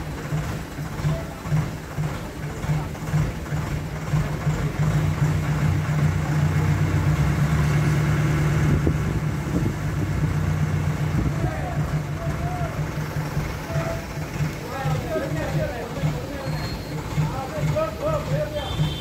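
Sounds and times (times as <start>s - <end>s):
diesel crane engine running: 0.0s - 19.0s.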